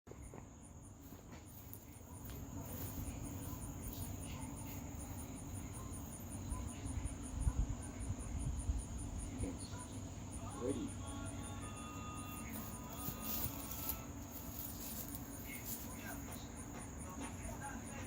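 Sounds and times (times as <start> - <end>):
crickets chirping: 0.1 - 18.0
steady high drone: 1.8 - 18.0.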